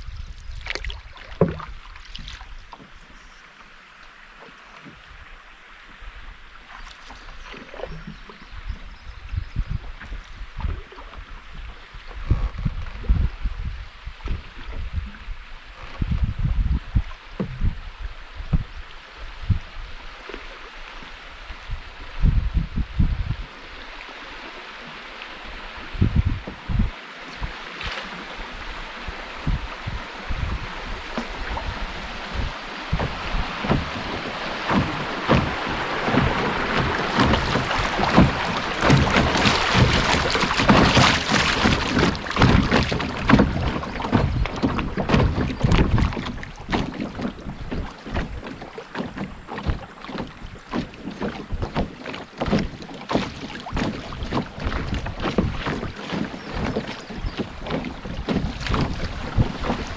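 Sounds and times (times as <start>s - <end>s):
wind buffeting the microphone: 0.0s - 2.8s, 7.3s - 20.3s, 20.9s - 23.9s, 25.5s - 59.9s
water rushing and splashing: 0.0s - 59.9s.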